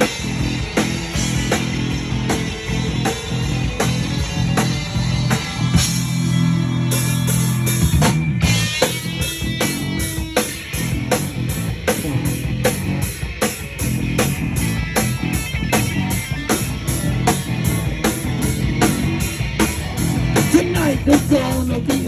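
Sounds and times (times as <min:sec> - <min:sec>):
drum kit beat: 0:00.0 - 0:22.0
electric guitar: 0:00.0 - 0:22.0.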